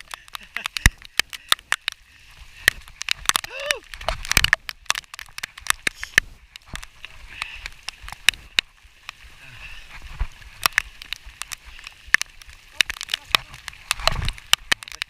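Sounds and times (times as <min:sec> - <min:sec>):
rain tapping on microphone: 0:00.0 - 0:15.0.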